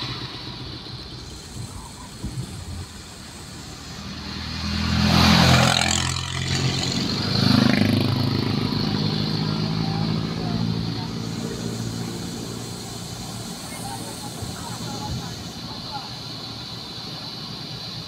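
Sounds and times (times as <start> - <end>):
tyres hissing on wet road: 0.0 - 18.0
vehicle engine passing: 0.0 - 18.0.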